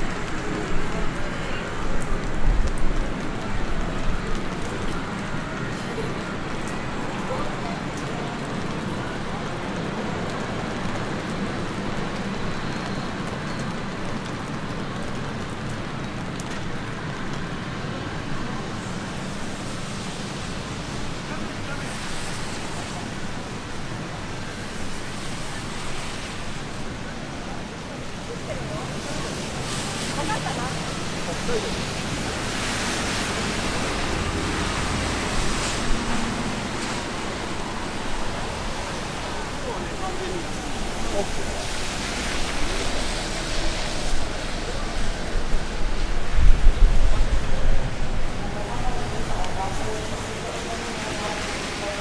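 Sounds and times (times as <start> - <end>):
raindrops ticking close: 0.0 - 52.0
steady rain hiss: 0.0 - 52.0.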